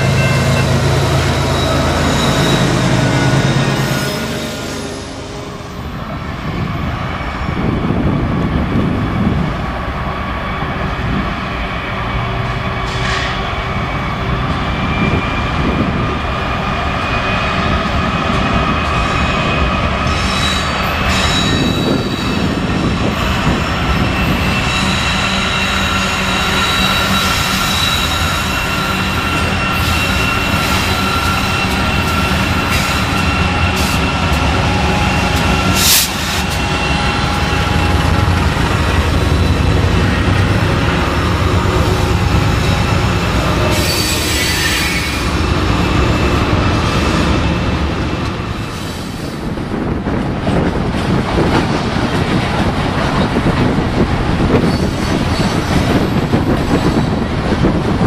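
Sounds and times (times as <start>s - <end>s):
diesel locomotive engines rumbling: 0.0s - 58.0s.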